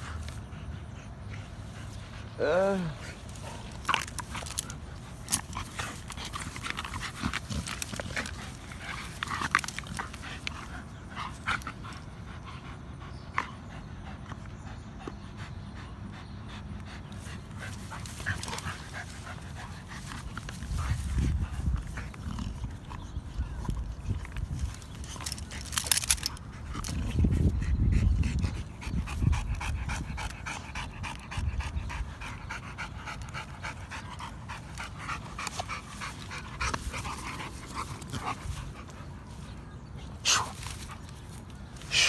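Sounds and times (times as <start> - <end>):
dogs panting: 0.0 - 42.0.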